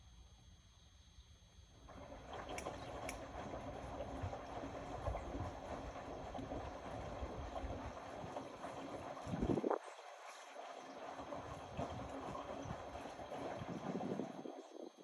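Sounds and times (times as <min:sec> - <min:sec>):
washing machine washing: 0:01.8 - 0:15.0.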